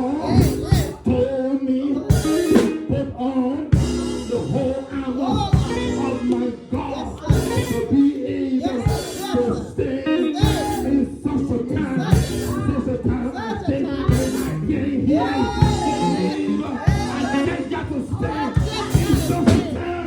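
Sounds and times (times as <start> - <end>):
band playing praise music: 0.0 - 20.0
people singing: 0.0 - 20.0
drum kit beat: 0.4 - 1.2, 2.1 - 3.1, 3.7 - 8.1, 8.7 - 9.7, 10.4 - 20.0.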